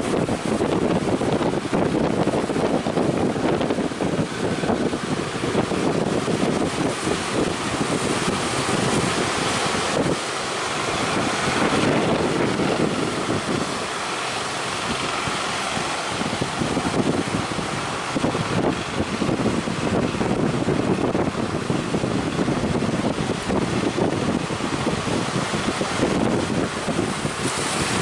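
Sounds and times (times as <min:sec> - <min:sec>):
breaking surf: 0:00.0 - 0:28.0
wind buffeting microphone: 0:00.0 - 0:28.0.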